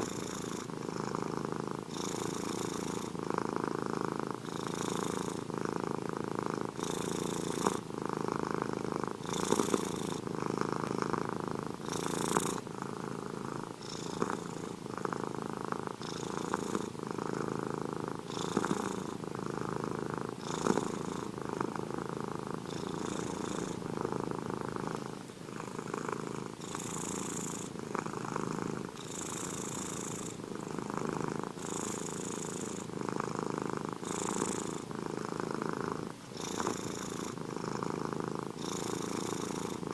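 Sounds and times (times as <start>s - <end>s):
cat purring: 0.0s - 39.9s
soft breathy hiss: 0.0s - 39.9s.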